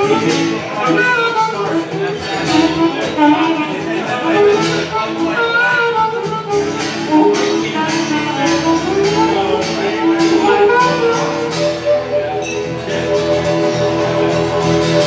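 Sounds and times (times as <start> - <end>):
acoustic guitar strumming: 0.0 - 15.0
harmonica melody: 0.0 - 15.0.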